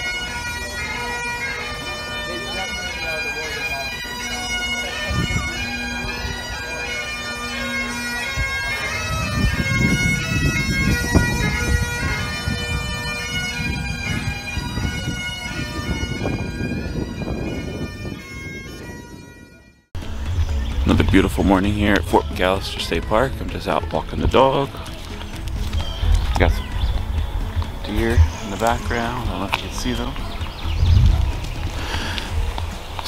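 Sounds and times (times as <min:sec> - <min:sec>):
bagpipes playing: 0:00.0 - 0:33.0.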